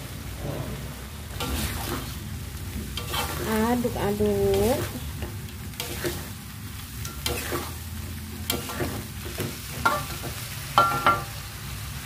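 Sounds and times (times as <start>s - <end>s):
low sizzle of frying: 0.0s - 12.0s
metal spatula scraping a wok: 0.4s - 11.3s.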